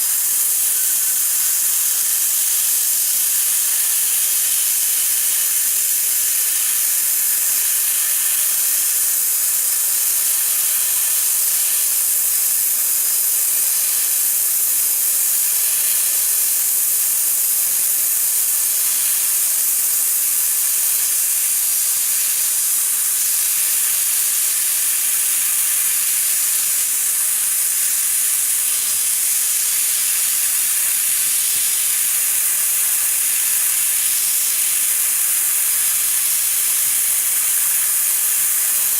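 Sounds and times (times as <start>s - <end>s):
laser cutting machine hiss: 0.0s - 38.9s.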